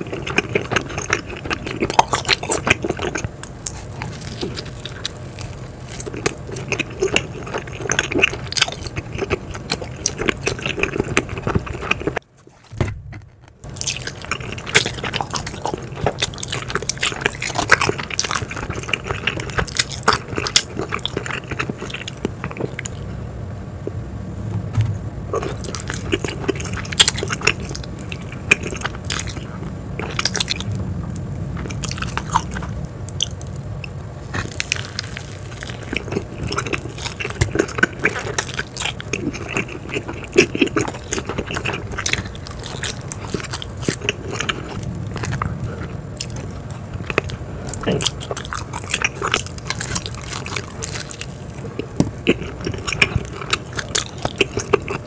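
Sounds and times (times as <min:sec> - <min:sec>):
person chewing with wet smacks: 0:00.0 - 0:12.8, 0:13.6 - 0:23.0, 0:25.3 - 0:55.0.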